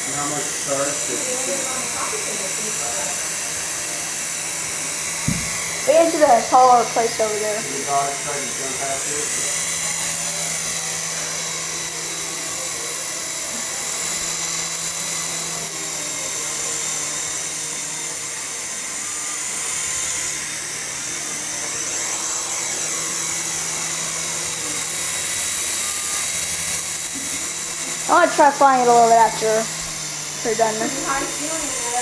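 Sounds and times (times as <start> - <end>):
model helicopter motor whine: 0.0 - 32.0
rotor blades whirring: 0.0 - 32.0.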